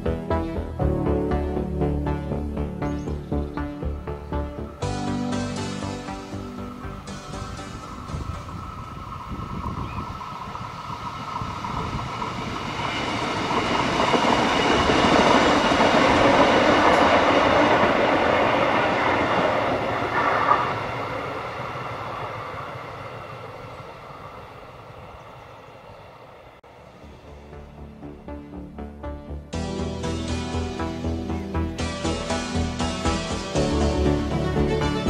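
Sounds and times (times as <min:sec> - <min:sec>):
diesel railcar rumbling past: 0:00.0 - 0:35.0
steady whine: 0:04.4 - 0:33.6.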